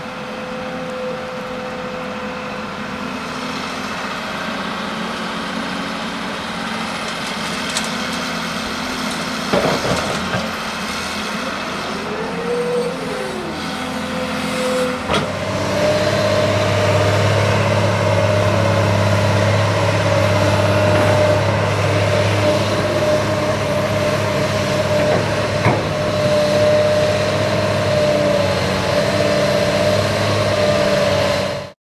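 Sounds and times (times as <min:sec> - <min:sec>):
excavator diesel engine running: 0:00.0 - 0:31.8.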